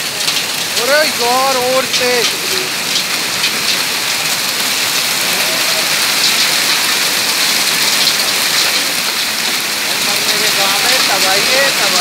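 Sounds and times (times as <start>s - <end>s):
hailstones striking: 0.0s - 12.0s
heavy rain on pavement: 0.0s - 12.0s.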